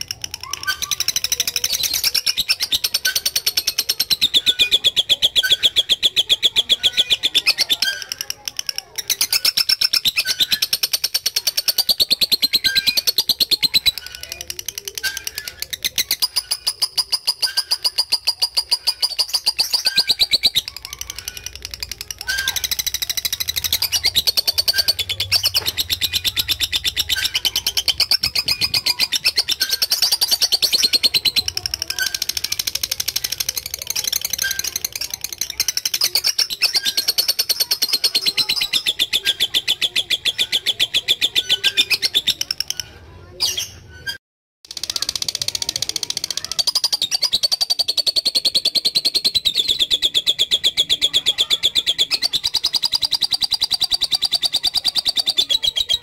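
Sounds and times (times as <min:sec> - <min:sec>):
lovebird rapid trill: 0:00.0 - 0:42.8, 0:44.7 - 0:56.0.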